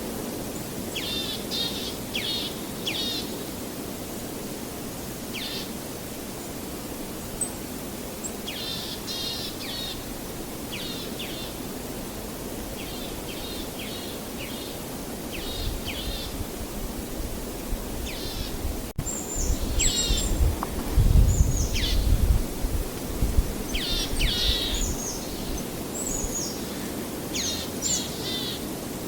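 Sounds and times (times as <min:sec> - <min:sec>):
steady outdoor noise: 0:00.0 - 0:29.0
small songbirds chirping: 0:00.6 - 0:04.4, 0:05.3 - 0:06.1, 0:06.8 - 0:16.4, 0:17.5 - 0:22.4, 0:23.1 - 0:28.7.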